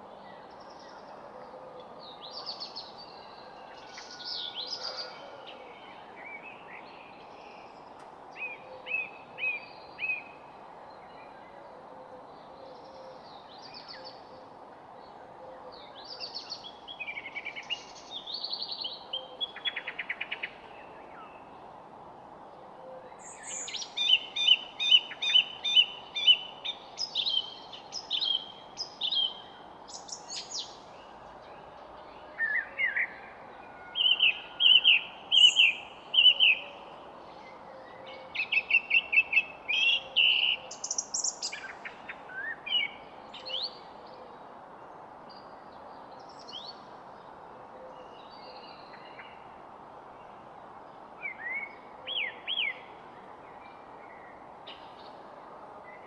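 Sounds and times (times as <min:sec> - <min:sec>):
songbirds chirping and trilling: 0:00.0 - 0:56.0
steady background hiss: 0:00.0 - 0:56.0.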